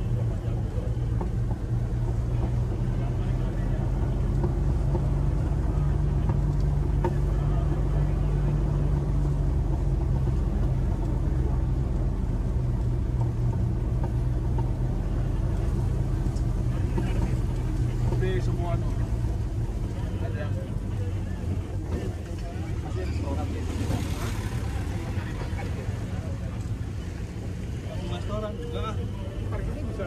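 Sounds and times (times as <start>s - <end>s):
car engine droning: 0.0s - 30.0s.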